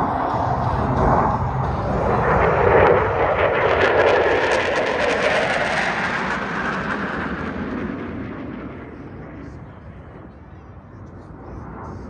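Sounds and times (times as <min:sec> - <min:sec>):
jets roaring overhead: 0:00.0 - 0:12.0.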